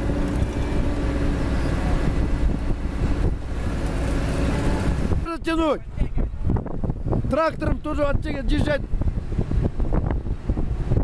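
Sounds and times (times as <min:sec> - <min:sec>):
heavy diesel machinery rumbling: 0:00.0 - 0:11.0.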